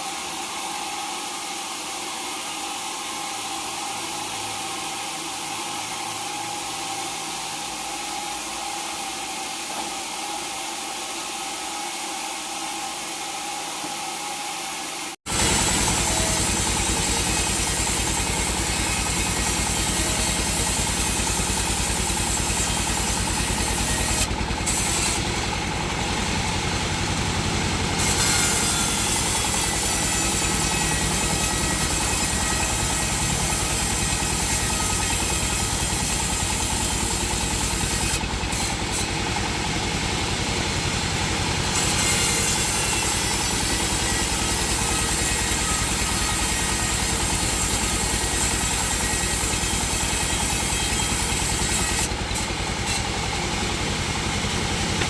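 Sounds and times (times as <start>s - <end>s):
saw cutting wood: 0.0s - 55.0s
sawmill engine running: 0.0s - 55.0s.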